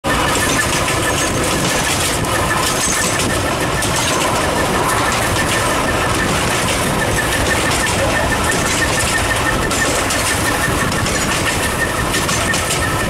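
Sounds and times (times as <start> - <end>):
steam locomotive hauling a train: 0.0 - 13.0.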